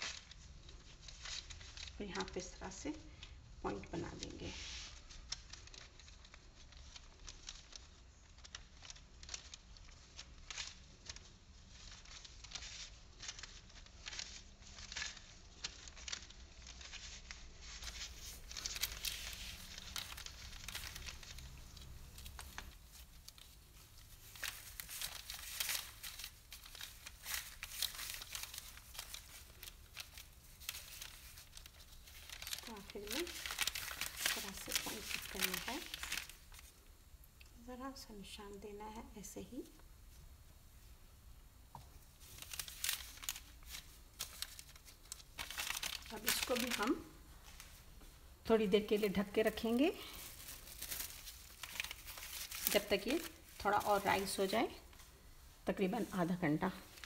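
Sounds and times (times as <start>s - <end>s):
paper and plastic gloves crinkling: 0.0s - 57.0s.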